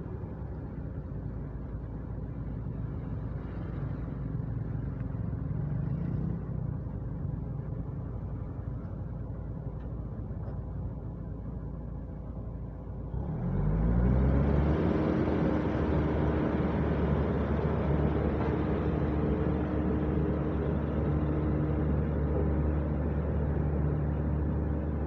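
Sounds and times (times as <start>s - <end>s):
heavy machine engine rumbling: 0.0s - 25.0s.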